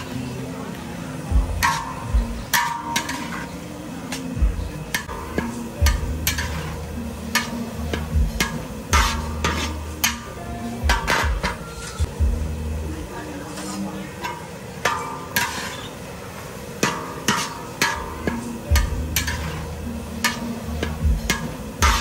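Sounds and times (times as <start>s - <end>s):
metal spatula clanking in wok: 1.2s - 12.1s, 13.5s - 22.0s.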